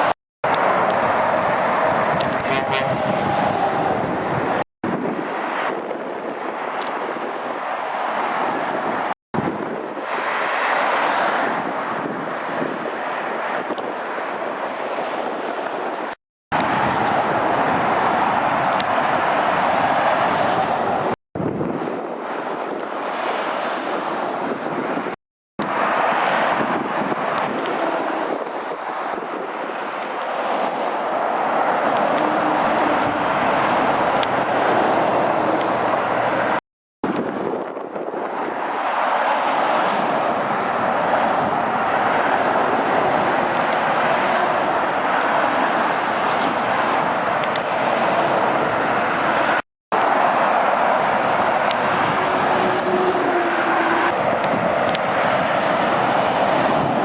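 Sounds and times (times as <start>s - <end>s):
traffic rushing past: 0.0s - 57.0s.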